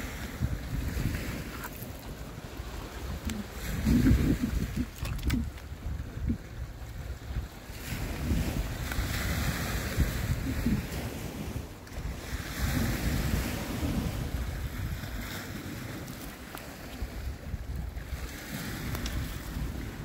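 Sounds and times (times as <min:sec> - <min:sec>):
waves washing on stony shore: 0:00.0 - 0:20.0
wind buffeting microphone: 0:00.0 - 0:20.0.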